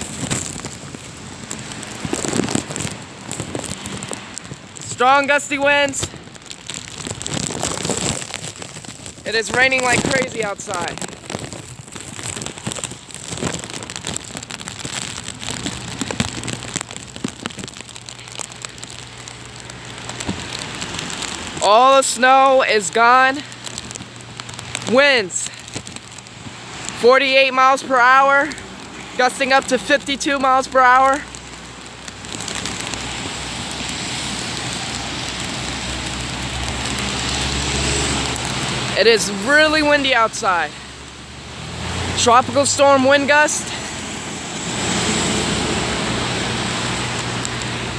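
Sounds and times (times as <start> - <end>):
heavy rain falling: 0.0 - 47.9
raindrops tapping close by: 0.0 - 47.9.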